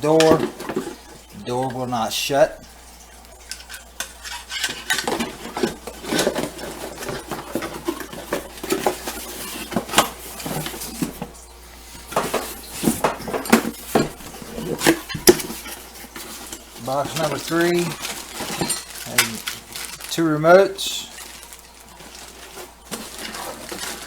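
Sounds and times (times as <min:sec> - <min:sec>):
packaging rustling: 0:00.0 - 0:01.3, 0:04.5 - 0:24.0.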